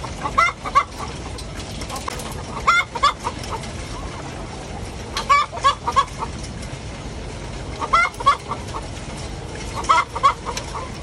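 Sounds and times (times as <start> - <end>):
hens cackling: 0.0 - 6.5, 7.6 - 11.0.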